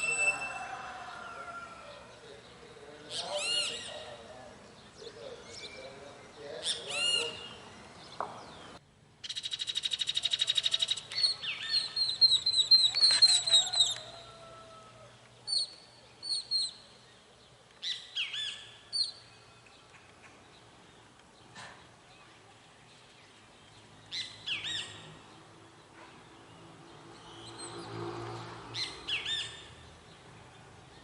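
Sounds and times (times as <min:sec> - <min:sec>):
songbird trill: 0:00.0 - 0:28.0
bird chirps: 0:03.0 - 0:14.3, 0:15.4 - 0:28.0, 0:28.7 - 0:30.3.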